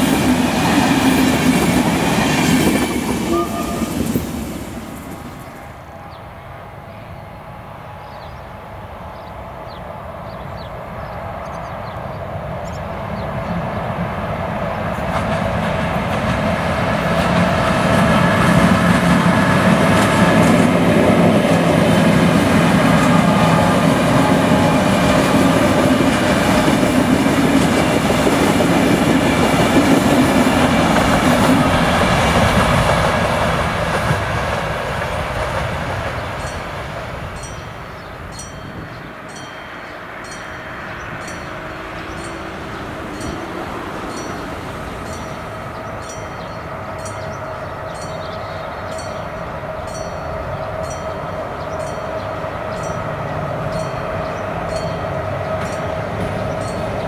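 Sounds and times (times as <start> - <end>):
train passing on rails: 0.0 - 57.0.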